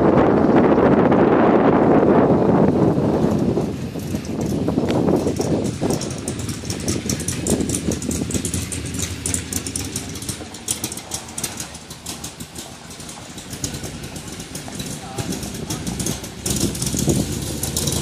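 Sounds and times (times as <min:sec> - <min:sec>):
car engine burbling: 0:00.0 - 0:18.0.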